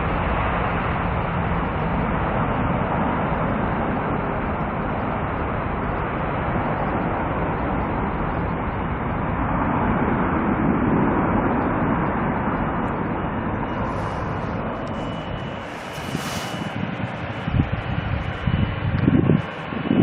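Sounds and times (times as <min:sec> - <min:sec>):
jet airliner passing: 0:00.0 - 0:20.0
thin steady whine: 0:00.0 - 0:20.0.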